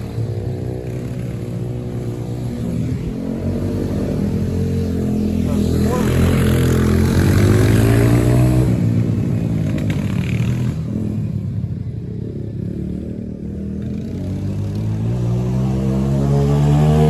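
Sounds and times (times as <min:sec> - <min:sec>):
dirt bike engine revving: 0:00.0 - 0:11.2, 0:12.6 - 0:17.0.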